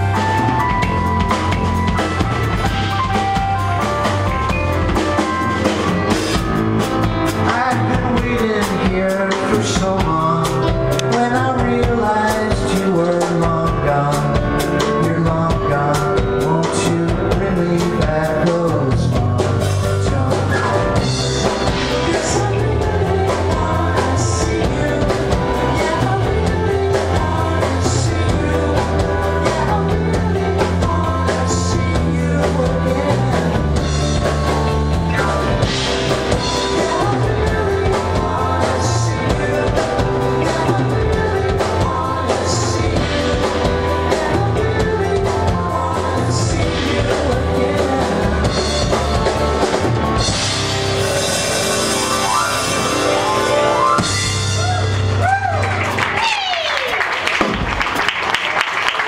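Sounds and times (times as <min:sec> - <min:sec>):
pop-rock band playing: 0:00.0 - 0:59.0.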